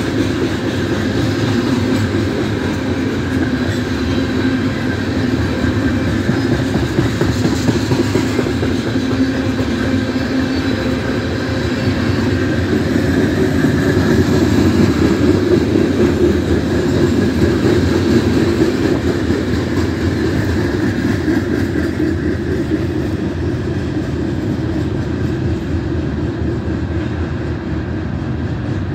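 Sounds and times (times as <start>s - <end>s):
steel wheels clattering on rails: 0.0s - 28.9s.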